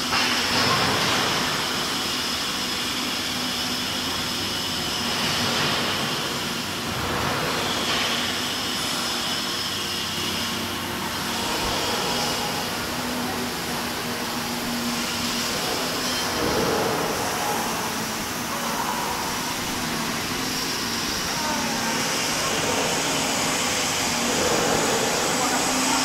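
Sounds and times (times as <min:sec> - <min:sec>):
mechanical drone: 0:00.0 - 0:26.0.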